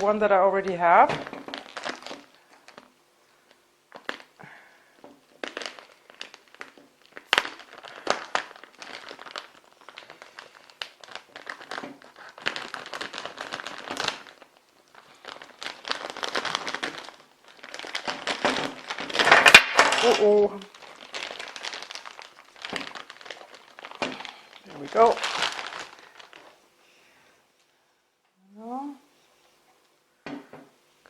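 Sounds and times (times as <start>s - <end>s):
plastic packaging crinkling: 0.0s - 26.7s.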